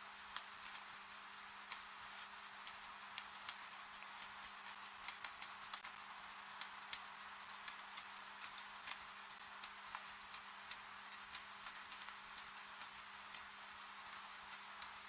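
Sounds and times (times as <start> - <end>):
raindrops ticking and tapping: 0.0 - 15.0
steady rain hiss: 0.0 - 15.0.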